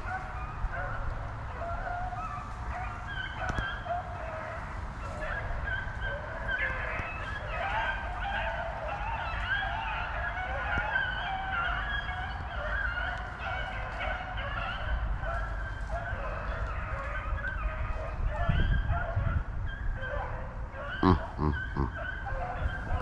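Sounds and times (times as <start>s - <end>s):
hounds baying: 0.0s - 23.0s.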